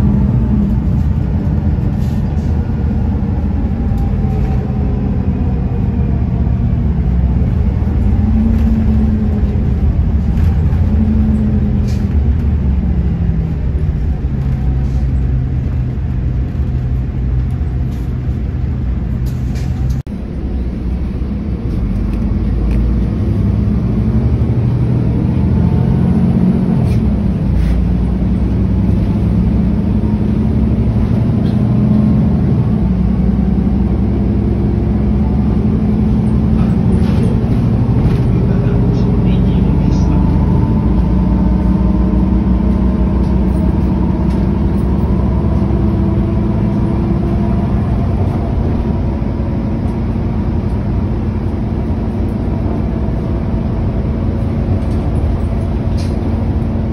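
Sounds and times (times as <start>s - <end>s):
bus engine idling: 0.0s - 56.9s.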